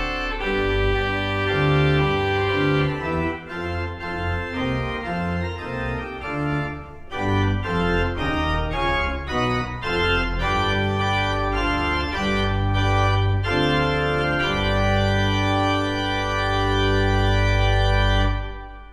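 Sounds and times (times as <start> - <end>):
church organ playing: 0.0 - 18.9.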